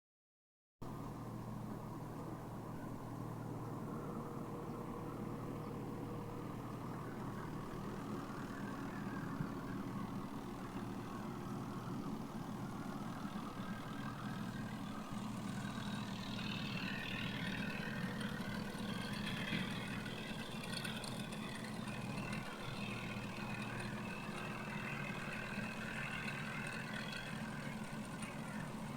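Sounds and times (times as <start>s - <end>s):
tractor diesel engine running: 0.9s - 28.9s.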